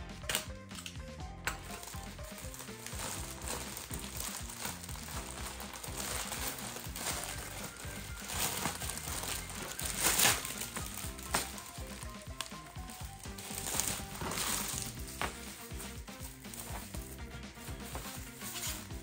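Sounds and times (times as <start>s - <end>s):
background music with steady beat: 0.0s - 19.0s
plastic mailer crinkling and rustling: 1.6s - 19.0s.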